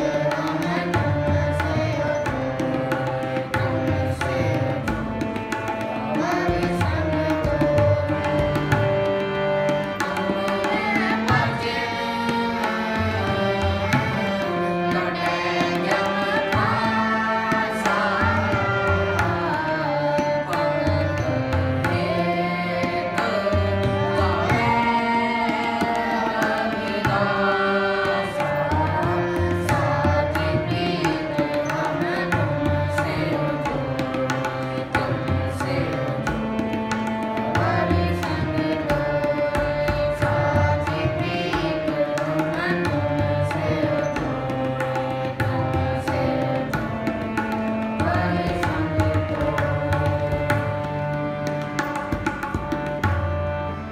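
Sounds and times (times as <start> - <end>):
voices singing a hymn: 0.0 - 5.0, 5.8 - 36.8, 37.4 - 50.5
harmonium melody and drone: 0.0 - 53.9
tabla rhythm: 0.0 - 53.9.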